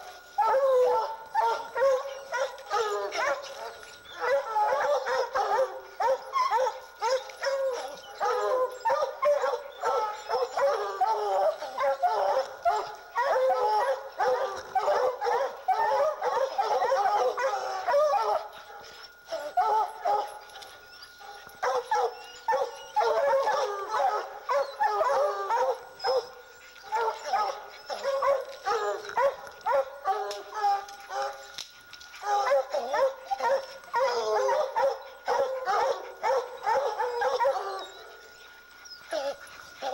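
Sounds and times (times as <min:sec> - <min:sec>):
hounds baying: 0:00.0 - 0:39.9.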